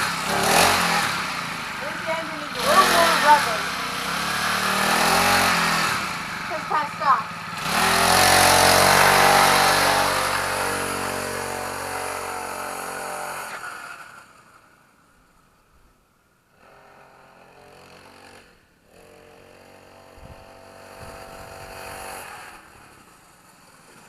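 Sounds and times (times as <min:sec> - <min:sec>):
mini dirt bike engine: 0:00.0 - 0:14.8, 0:16.5 - 0:24.0.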